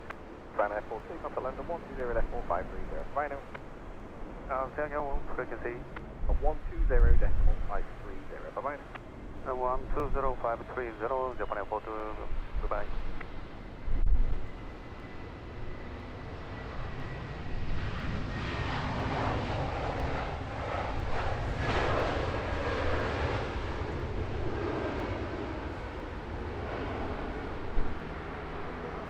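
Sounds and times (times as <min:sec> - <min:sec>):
jet airliner passing: 0:00.0 - 0:29.0.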